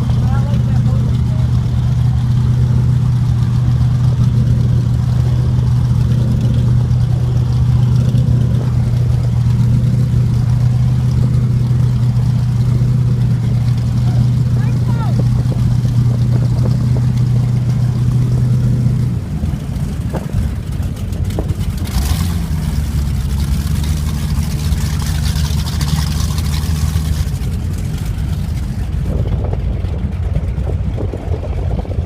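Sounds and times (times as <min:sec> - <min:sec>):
powerboat engine running: 0:00.0 - 0:32.0
rush of wind and water: 0:00.0 - 0:32.0.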